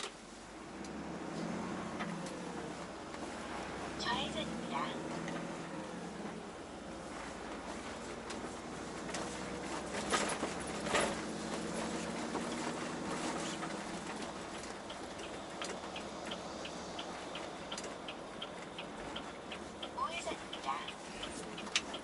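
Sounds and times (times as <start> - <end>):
truck engine and road noise: 0.0 - 22.0
turn signal ticking: 0.0 - 22.0.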